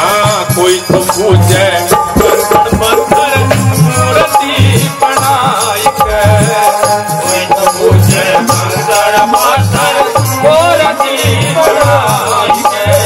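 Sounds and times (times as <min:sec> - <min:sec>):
hand drum beating: 0:00.0 - 0:13.0.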